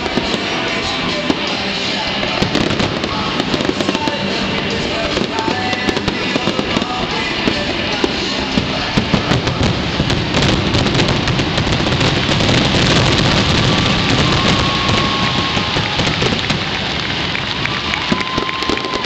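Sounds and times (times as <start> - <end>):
fireworks bursting and crackling: 0.0 - 19.0
music: 0.0 - 19.0.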